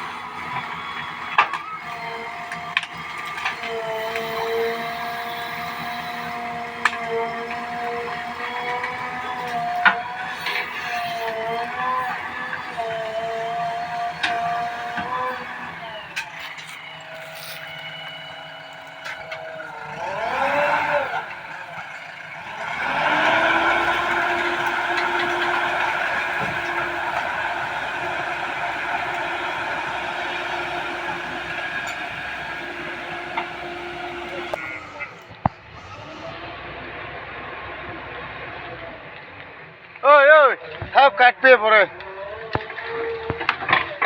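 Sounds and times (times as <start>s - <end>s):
steady whine: 0.0s - 36.1s
diesel engine running: 0.0s - 40.0s.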